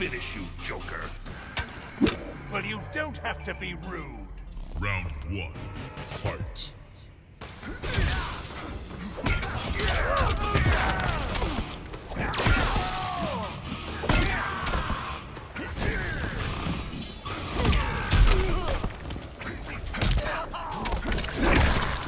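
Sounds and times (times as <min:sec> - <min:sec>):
video game music: 0:00.0 - 0:22.0.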